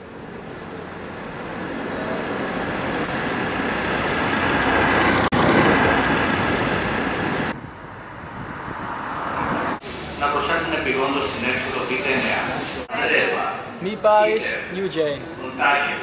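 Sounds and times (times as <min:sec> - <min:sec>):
cars driving past: 0:00.4 - 0:13.2.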